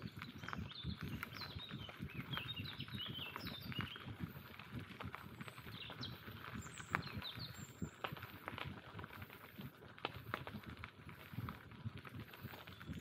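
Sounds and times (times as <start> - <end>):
bicycle tyres crunching and rattling: 0.0 - 13.0
small birds chirping: 0.0 - 13.0.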